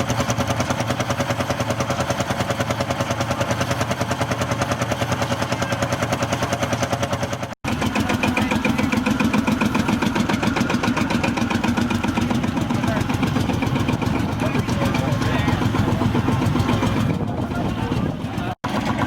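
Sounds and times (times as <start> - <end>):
another engine running: 0.0 - 19.0
engine exhaust pulses: 0.0 - 19.0.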